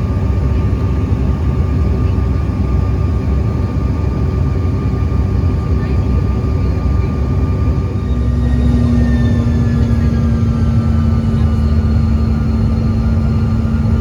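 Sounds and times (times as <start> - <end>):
jet engine cabin rumble: 0.0 - 14.0
steady low hum: 0.0 - 14.0.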